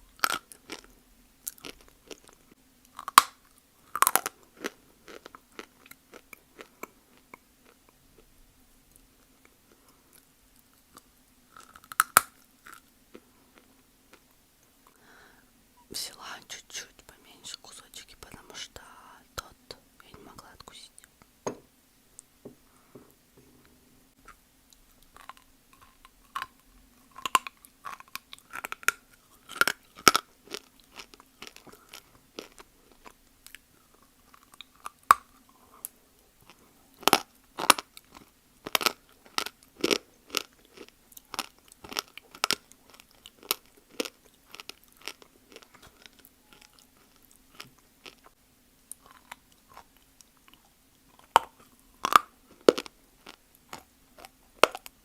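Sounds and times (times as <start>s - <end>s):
crunchy chewing of dry clay: 0.1s - 8.3s, 9.0s - 15.0s, 24.2s - 55.0s.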